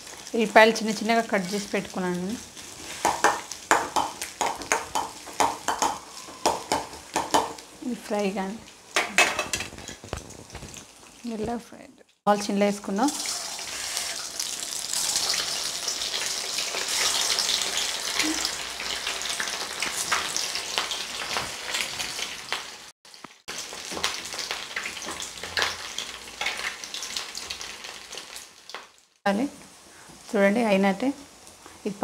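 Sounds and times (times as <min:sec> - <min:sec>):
deep-frying sizzle with pops: 0:00.0 - 0:11.6, 0:12.4 - 0:31.8.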